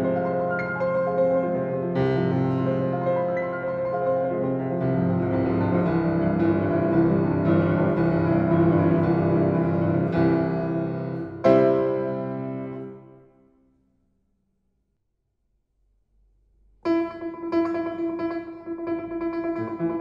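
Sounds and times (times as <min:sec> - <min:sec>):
grand piano playing: 0:00.0 - 0:13.5, 0:16.8 - 0:20.0.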